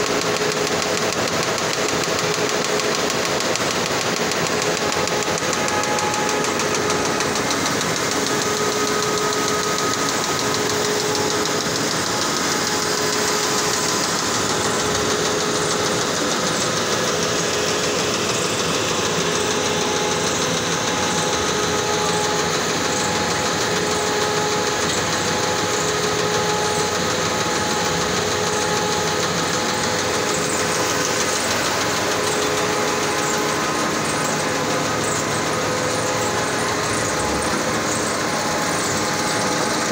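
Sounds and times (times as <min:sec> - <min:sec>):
mechanical clatter of machinery: 0:00.0 - 0:39.9.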